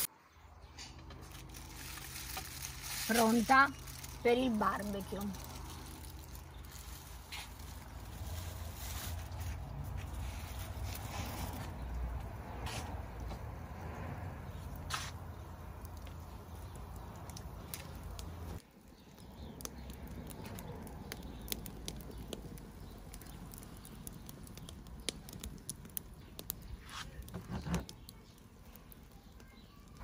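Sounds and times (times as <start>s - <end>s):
wood fire crackling: 1.0s - 30.0s.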